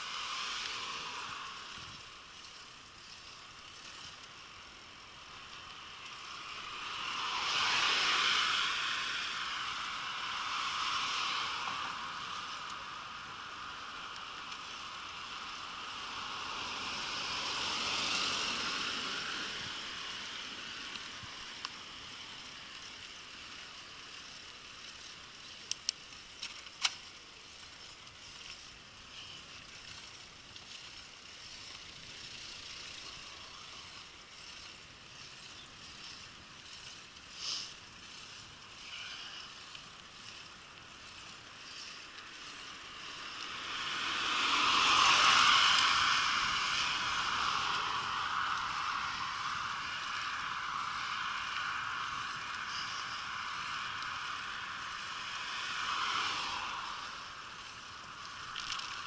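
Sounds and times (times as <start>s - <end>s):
bicycle rolling with wind hiss: 0.0s - 59.0s
car passing: 0.0s - 59.0s.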